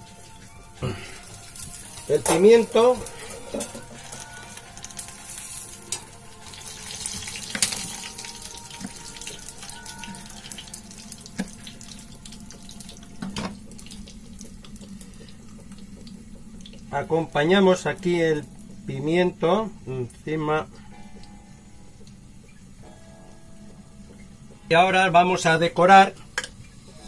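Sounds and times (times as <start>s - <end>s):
oil sizzling in a frying pan: 0.0s - 27.0s.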